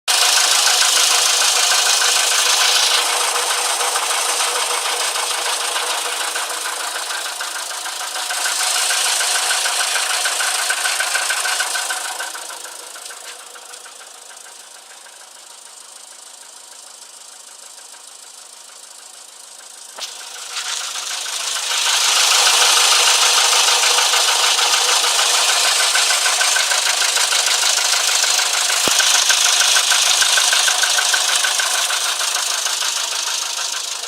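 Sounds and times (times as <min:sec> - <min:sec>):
car engine running with knock: 0:00.1 - 0:34.0.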